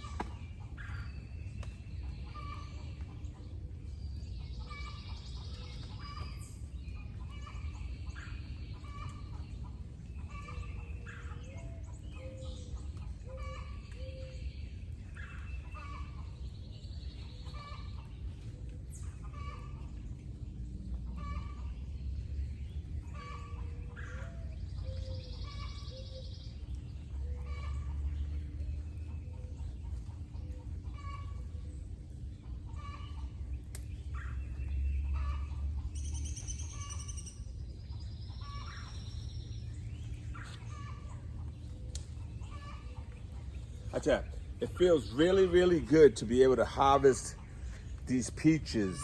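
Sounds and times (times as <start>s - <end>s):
birds calling: 0.0s - 49.0s.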